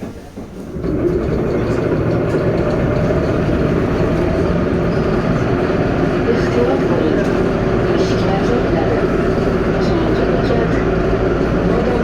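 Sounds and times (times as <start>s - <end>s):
train air compressor running: 0.0s - 12.0s.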